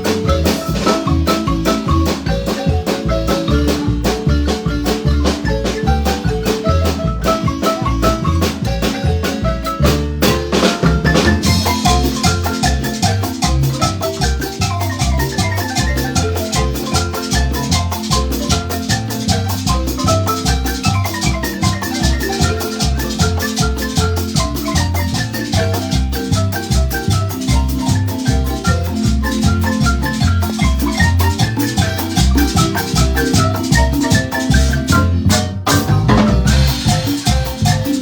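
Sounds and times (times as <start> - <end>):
marimba mallet runs: 0.0 - 38.0
percussion beat: 0.0 - 38.0
pulsing bass line: 0.0 - 38.0.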